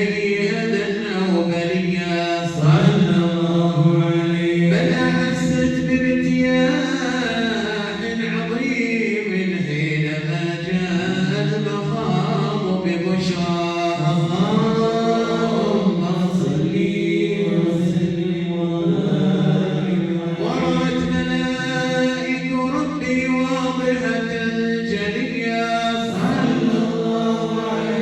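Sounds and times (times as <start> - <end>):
voices chanting a prayer: 0.0 - 28.0.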